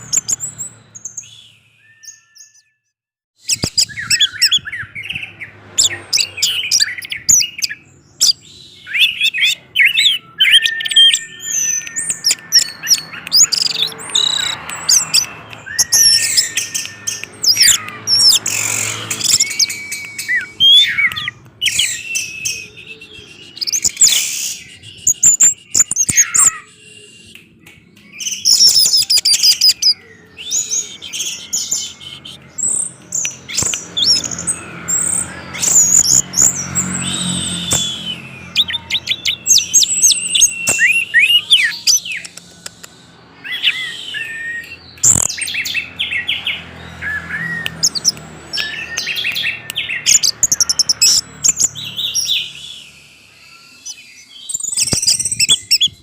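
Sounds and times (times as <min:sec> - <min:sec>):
thrush singing whistles and chirps: 0:00.0 - 0:56.0.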